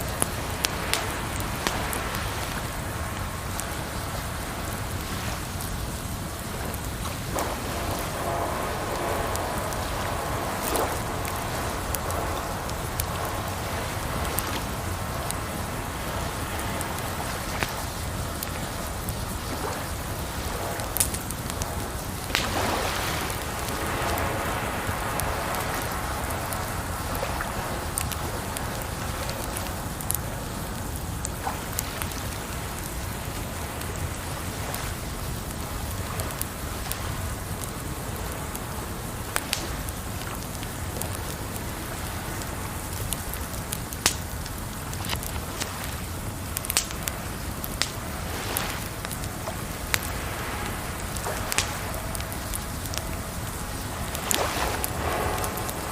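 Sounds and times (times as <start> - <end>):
campfire crackling and popping: 0.0 - 55.9
running water: 0.0 - 55.9.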